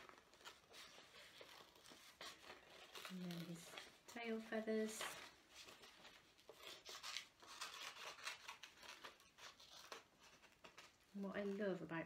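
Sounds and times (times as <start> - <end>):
paper rustling: 0.0 - 12.0
scissors snipping paper: 0.0 - 12.0.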